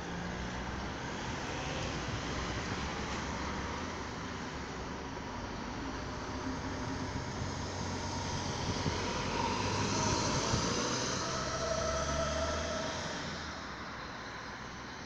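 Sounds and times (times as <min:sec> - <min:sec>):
van driving past: 0:00.0 - 0:15.0.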